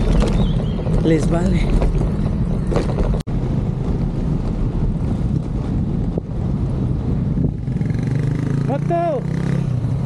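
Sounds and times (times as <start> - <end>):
traffic noise: 0.0 - 10.0
wind buffeting microphone: 0.0 - 10.0.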